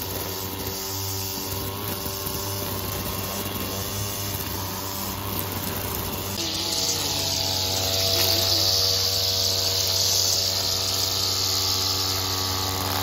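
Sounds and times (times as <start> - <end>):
string trimmer cutting grass: 0.0 - 13.0.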